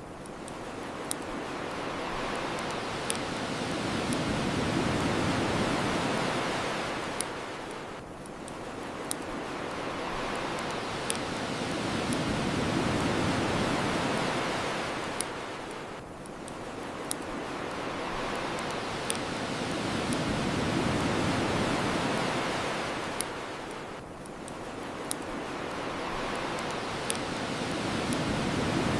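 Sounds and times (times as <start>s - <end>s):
bonfire crackling and popping: 0.0s - 28.9s
ocean waves washing ashore: 0.0s - 28.9s.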